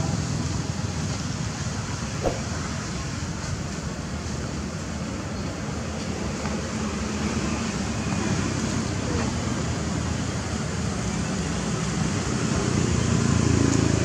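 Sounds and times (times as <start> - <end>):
low rumbling outdoor background noise: 0.0 - 14.0.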